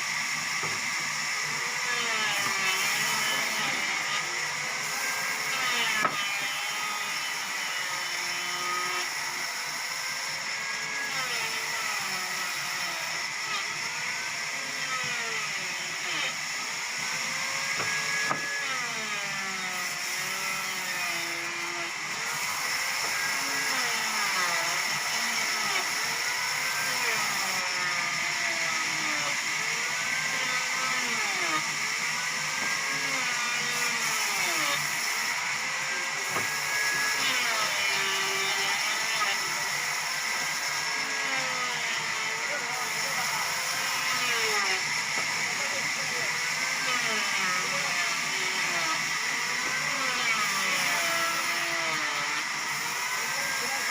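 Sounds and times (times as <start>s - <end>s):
sawmill machinery whining: 0.0s - 53.9s.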